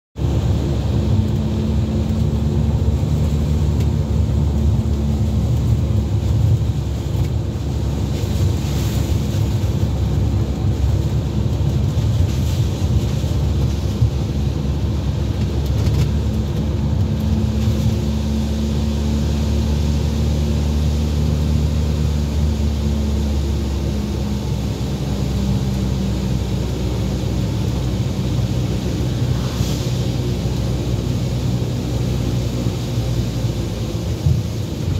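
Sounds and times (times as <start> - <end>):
car engine drone: 0.2 - 34.9
tyre noise on wet road: 0.2 - 34.9.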